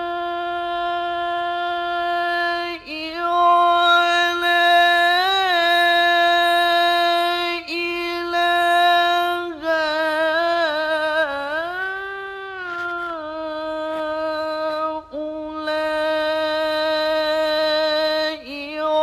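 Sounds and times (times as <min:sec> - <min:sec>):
man reciting melodically: 0:00.0 - 0:19.0.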